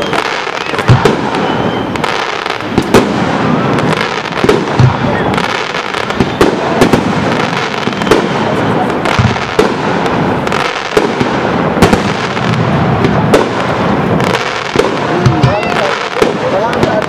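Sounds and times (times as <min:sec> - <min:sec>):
fireworks crackling and booming: 0:00.0 - 0:17.0
sharp firework bangs: 0:00.0 - 0:17.0.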